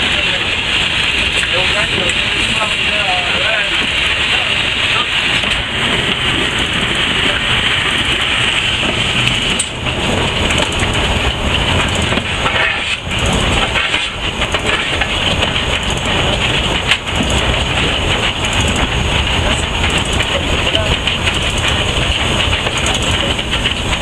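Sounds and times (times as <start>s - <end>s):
rush of steam: 0.0s - 24.0s
knocks and clanks: 3.6s - 24.0s.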